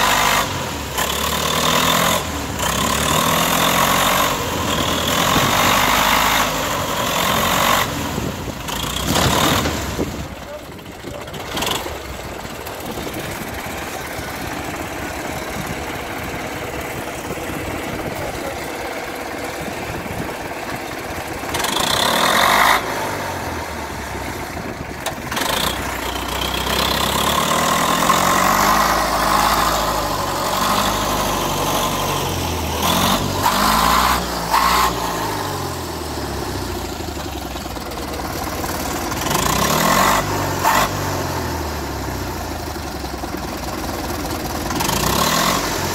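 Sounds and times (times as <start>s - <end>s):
diesel engine revving: 0.0s - 45.9s.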